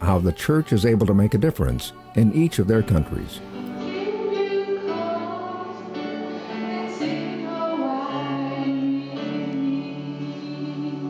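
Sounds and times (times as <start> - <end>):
woman singing into a microphone: 0.1 - 2.8, 3.4 - 11.0.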